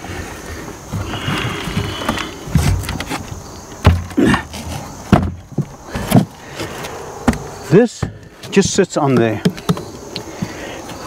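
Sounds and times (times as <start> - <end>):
wood scraping: 0.0 - 11.0.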